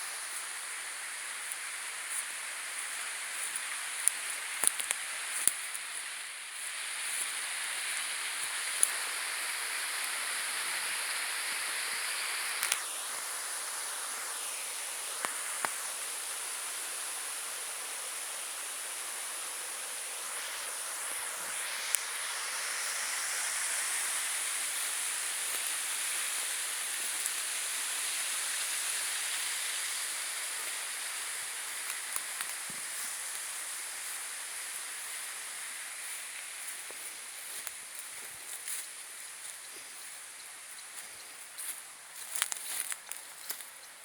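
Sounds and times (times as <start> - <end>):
running water: 0.0 - 44.0.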